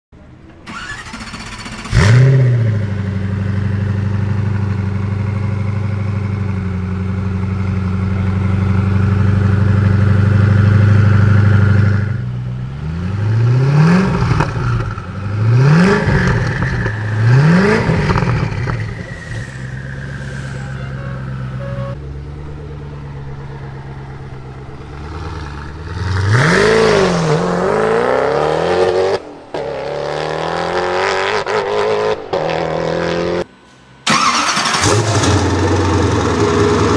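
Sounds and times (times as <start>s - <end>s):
car engine starting and idling: 0.2s - 27.9s, 33.4s - 36.9s
car engine revving: 0.7s - 36.9s.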